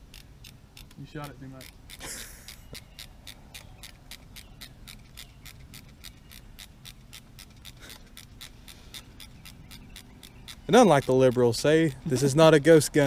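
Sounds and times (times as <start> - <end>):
insect chirping: 1.1 - 11.8.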